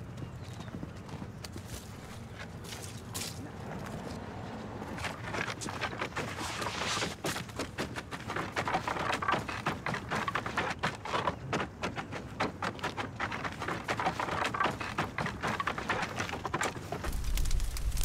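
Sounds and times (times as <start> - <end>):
rustling and crunching of debris: 1.1 - 18.0.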